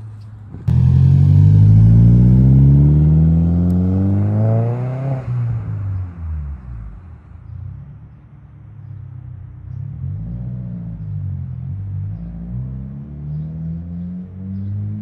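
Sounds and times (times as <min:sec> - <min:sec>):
car exhaust rumble: 0:00.0 - 0:12.6.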